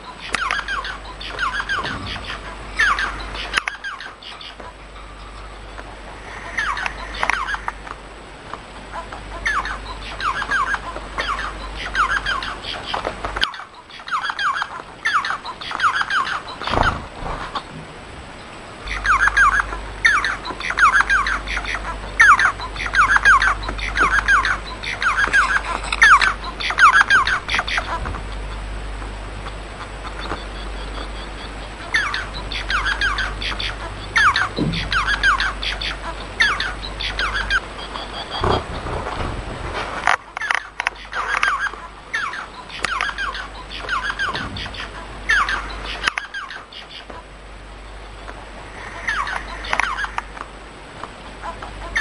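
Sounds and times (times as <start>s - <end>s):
finch chattering calls: 0.0s - 5.4s, 6.3s - 7.8s, 9.0s - 17.7s, 18.8s - 28.6s, 29.5s - 39.0s, 40.0s - 47.2s, 48.8s - 50.3s
low steady hum: 0.0s - 52.0s.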